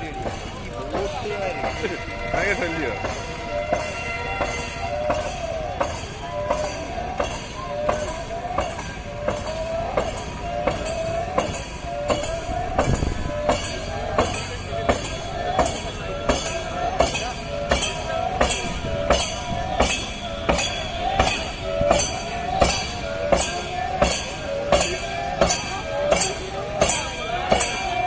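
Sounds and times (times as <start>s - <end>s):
oars striking in rhythm: 0.0s - 28.0s
steady high tone: 0.0s - 28.0s.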